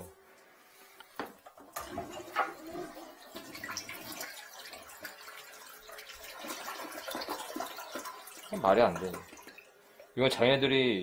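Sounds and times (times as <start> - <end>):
water stirred in toilet bowl: 1.3 - 10.4
water trickling: 1.4 - 10.6.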